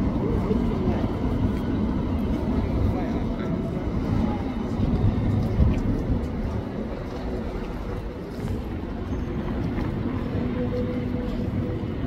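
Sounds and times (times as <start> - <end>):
city street traffic rumble: 0.0 - 12.0
tram rolling on street track: 0.0 - 12.0.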